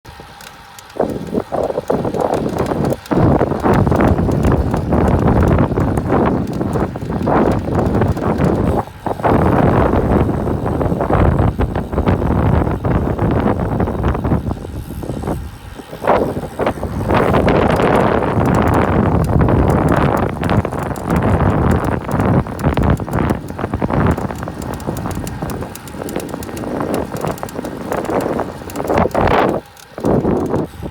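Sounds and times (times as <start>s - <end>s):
bike creaking and clicking: 0.1s - 30.9s
steady rushing noise: 0.1s - 30.9s.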